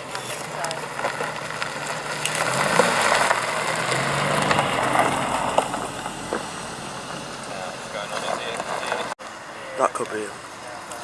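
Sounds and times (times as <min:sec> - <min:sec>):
car engine passing by: 0:00.0 - 0:09.2.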